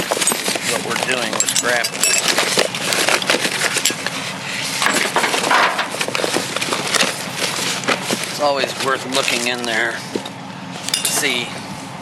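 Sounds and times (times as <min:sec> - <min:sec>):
rummaging through junk: 0:00.0 - 0:11.5.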